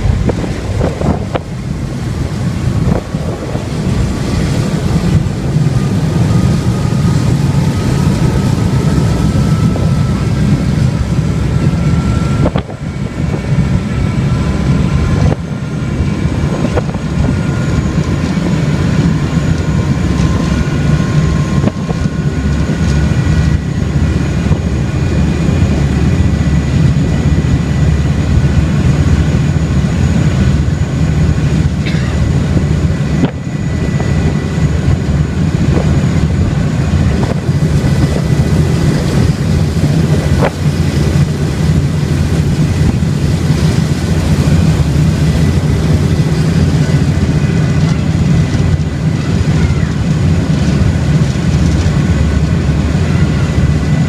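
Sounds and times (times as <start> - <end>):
low drone of boat engines: 0.0 - 54.0.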